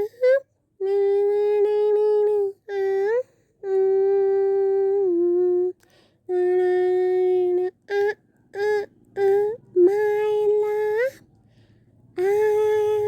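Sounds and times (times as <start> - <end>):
person humming a tune: 0.0 - 11.2, 12.2 - 13.0.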